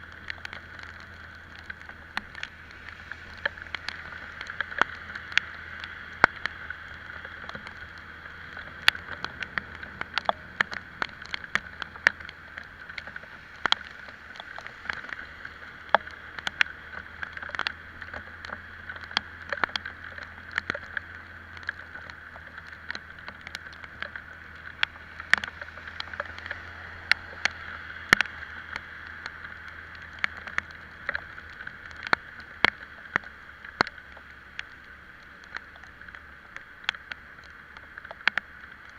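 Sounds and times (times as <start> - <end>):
air rush and road noise: 0.0 - 38.9
raindrops ticking on microphone: 0.0 - 38.9.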